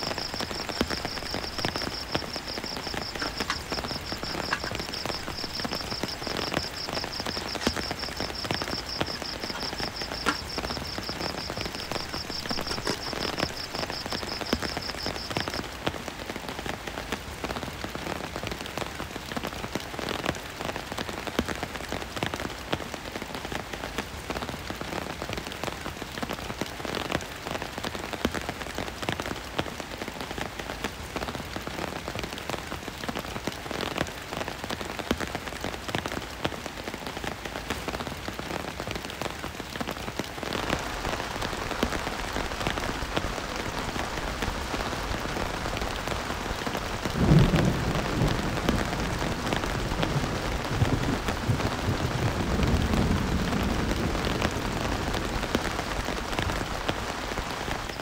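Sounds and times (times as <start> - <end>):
rain tapping on tarp: 0.0 - 58.0.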